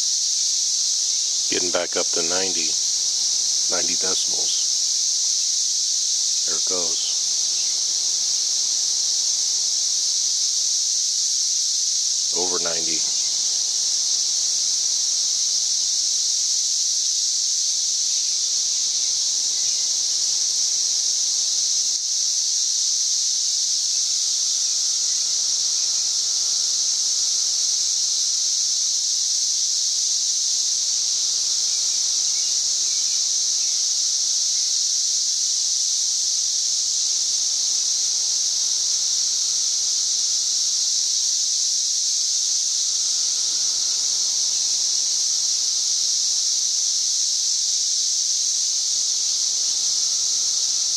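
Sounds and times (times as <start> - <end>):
cicadas droning: 0.0 - 50.9.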